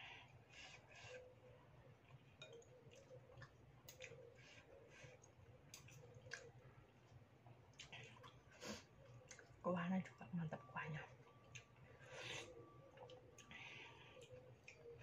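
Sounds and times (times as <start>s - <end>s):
quiet chewing: 0.2s - 15.0s.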